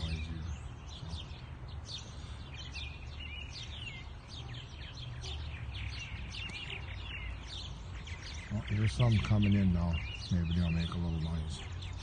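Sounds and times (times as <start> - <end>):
birds chirping and warbling: 0.0 - 12.0.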